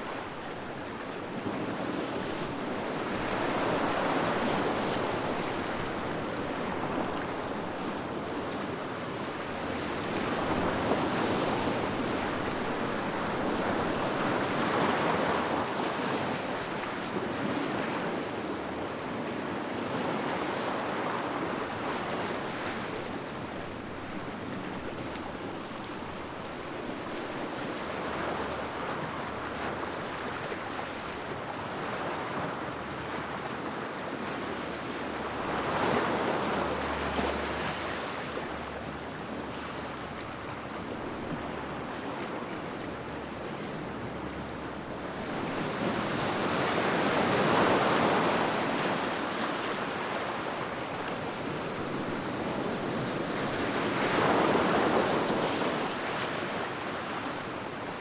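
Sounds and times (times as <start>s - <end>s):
sea waves washing ashore: 0.0s - 58.0s.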